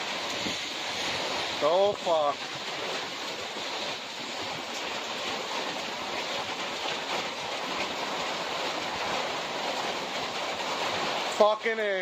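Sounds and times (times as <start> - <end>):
storm wind: 0.0 - 11.4
rain: 0.0 - 12.0.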